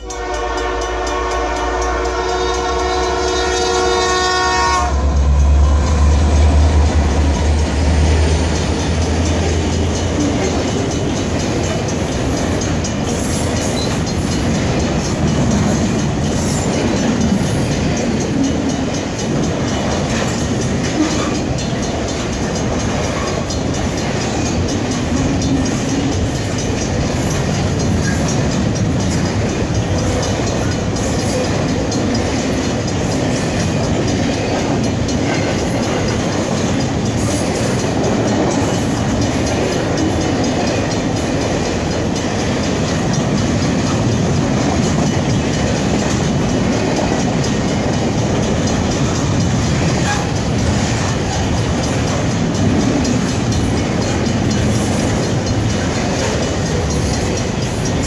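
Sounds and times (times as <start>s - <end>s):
steel wheels rumbling on rail: 0.0s - 58.0s
wheels clicking over rail joints: 0.0s - 58.0s.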